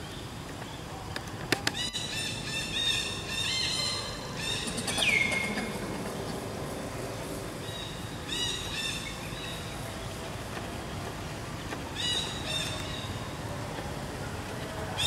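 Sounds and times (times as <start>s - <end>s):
birds calling: 0.0s - 15.0s
outdoor background hiss: 0.0s - 15.0s.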